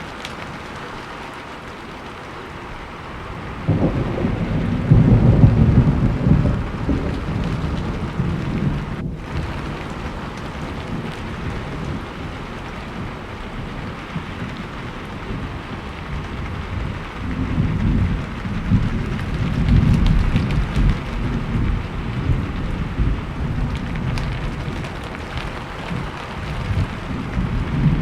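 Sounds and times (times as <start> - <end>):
steady rain: 0.0 - 28.0
rolling thunder: 2.6 - 28.0.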